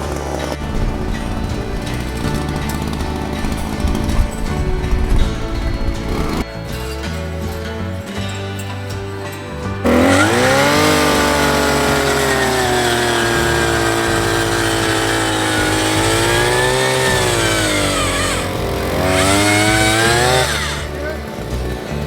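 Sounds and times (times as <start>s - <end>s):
small gasoline engine revving: 0.0s - 6.5s, 9.7s - 22.0s.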